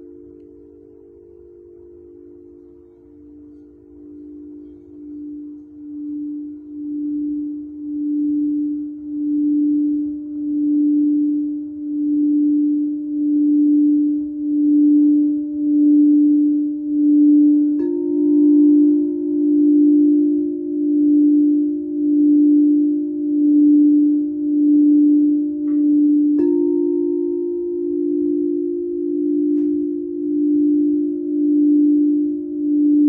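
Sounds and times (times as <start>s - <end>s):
singing bowl humming tone: 0.0s - 33.0s
singing bowl strike ringing: 0.0s - 33.0s.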